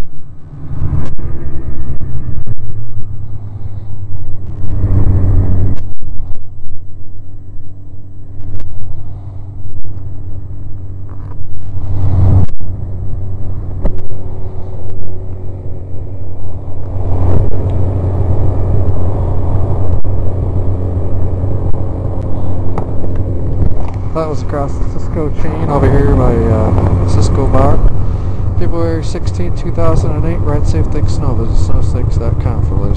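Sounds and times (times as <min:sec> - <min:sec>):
snowmobile engine running: 0:00.4 - 0:32.9.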